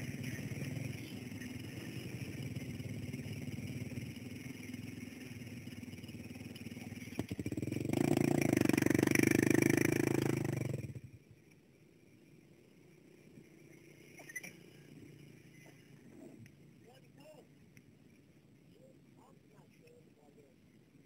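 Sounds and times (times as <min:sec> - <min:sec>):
dirt bike engines putting: 0:00.0 - 0:19.3.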